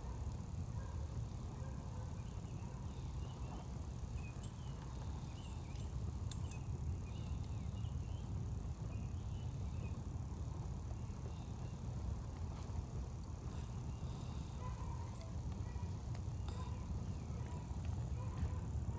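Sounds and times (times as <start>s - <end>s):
campfire popping: 0.0s - 18.9s
steady low rumble: 0.0s - 18.9s.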